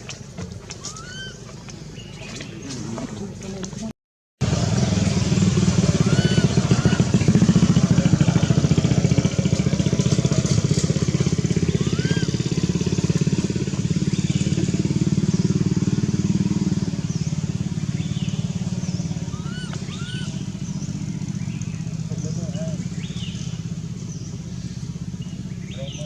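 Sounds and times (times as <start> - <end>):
motorcycle engine idling: 4.4 - 26.0.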